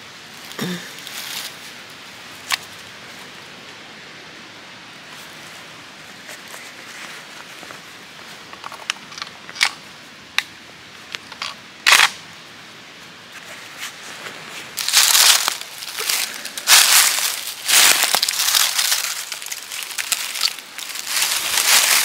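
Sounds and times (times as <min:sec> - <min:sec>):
dry leaves rustling: 0:00.0 - 0:10.2, 0:10.9 - 0:22.0.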